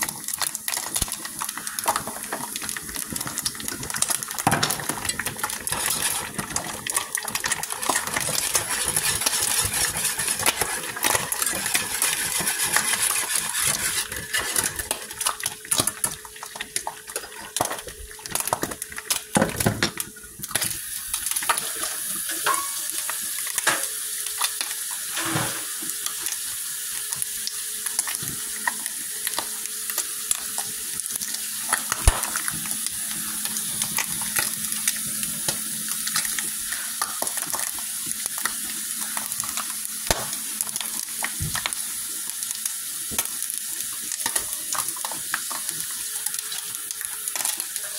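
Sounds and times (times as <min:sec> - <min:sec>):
bacon sizzling in a skillet: 0:00.0 - 0:47.9.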